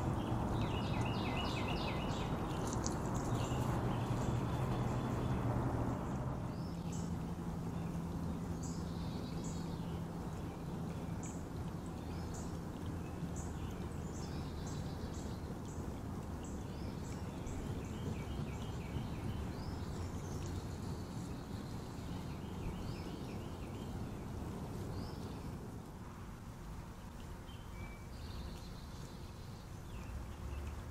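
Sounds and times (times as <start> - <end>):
creek running over gravel: 0.0 - 30.9
songbirds chirping: 0.0 - 30.9.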